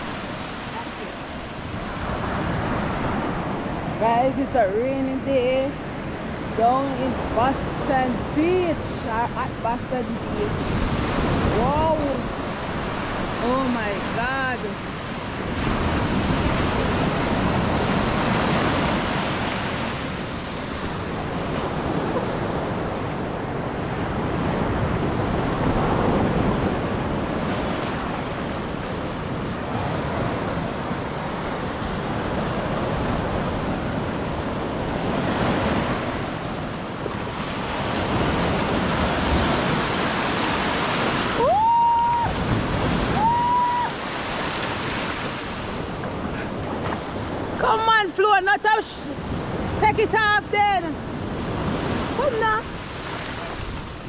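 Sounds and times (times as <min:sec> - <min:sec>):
wind on microphone: 0:00.0 - 0:48.0, 0:49.0 - 0:54.0
sea surf breaking: 0:00.0 - 0:54.0.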